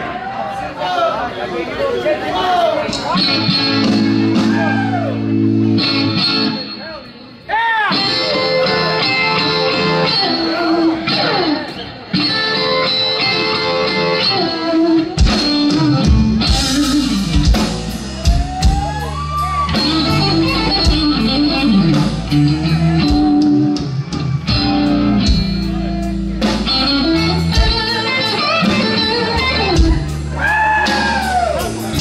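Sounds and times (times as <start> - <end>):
drums: 2.4 - 32.0
bass guitar: 2.9 - 6.8, 8.0 - 32.0
electric guitar lead: 2.9 - 32.0.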